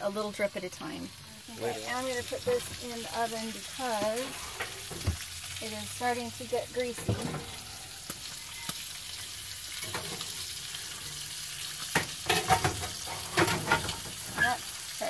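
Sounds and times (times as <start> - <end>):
bacon sizzling in a frying pan: 0.0 - 15.0.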